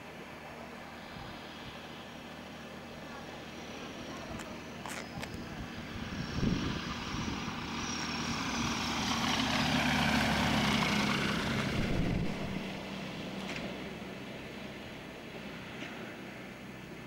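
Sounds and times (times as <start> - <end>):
propeller plane drone: 0.0 - 17.0.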